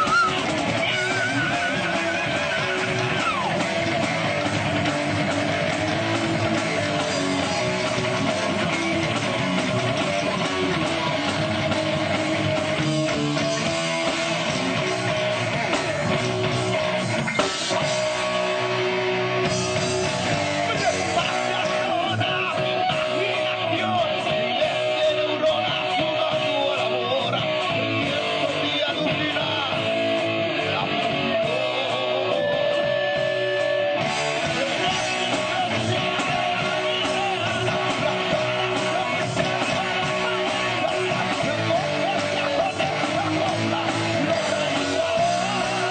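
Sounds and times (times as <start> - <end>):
bass: 0.0 - 45.9
drums: 0.0 - 45.9
electric guitars: 0.0 - 45.9.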